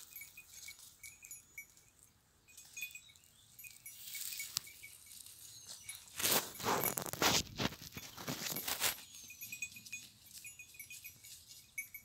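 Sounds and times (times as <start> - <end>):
goat bells tinkling: 0.0 - 12.0.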